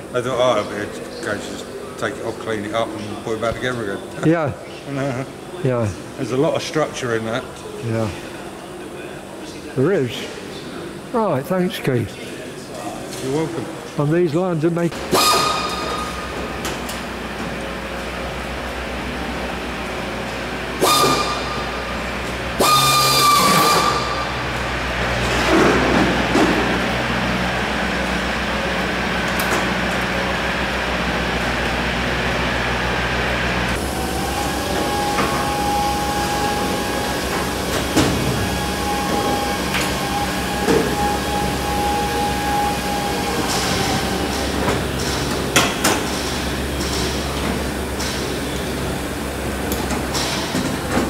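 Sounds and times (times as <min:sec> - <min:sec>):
workshop machinery hum: 0:00.0 - 0:51.0.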